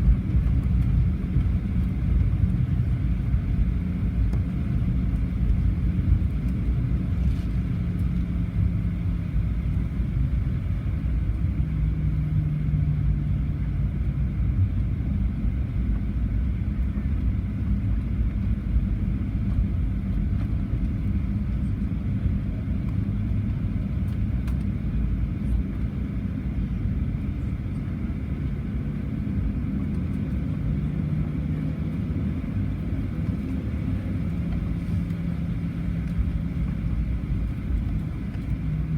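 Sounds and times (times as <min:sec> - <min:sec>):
jet engines idling rumble: 0:00.0 - 0:38.9.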